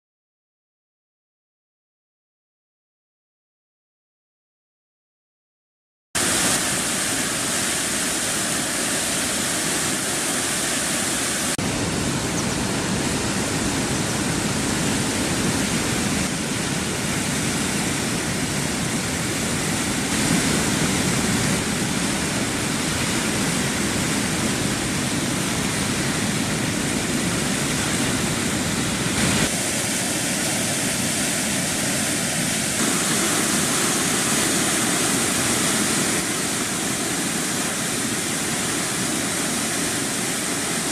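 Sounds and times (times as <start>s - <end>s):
floodwater rushing: 6.2s - 40.9s.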